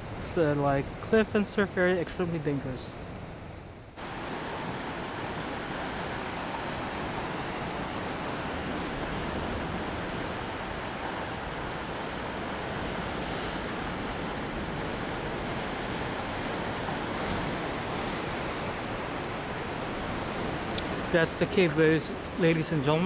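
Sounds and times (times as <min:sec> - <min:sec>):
ocean surf breaking over rocks: 0:04.0 - 0:23.0.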